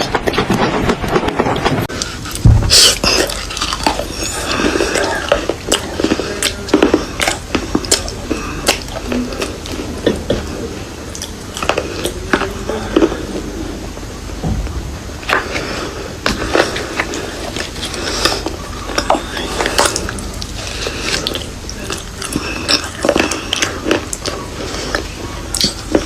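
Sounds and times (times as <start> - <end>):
person crunching and chewing: 0.0 - 13.6, 15.2 - 26.0.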